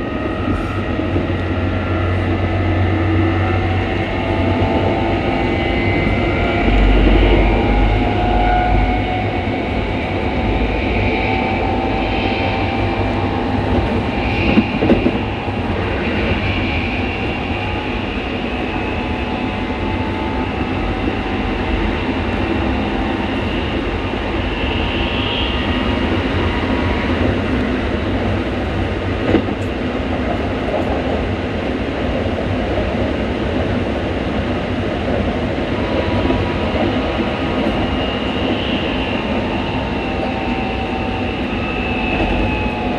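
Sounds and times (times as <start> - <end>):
train rumble: 0.0 - 42.9.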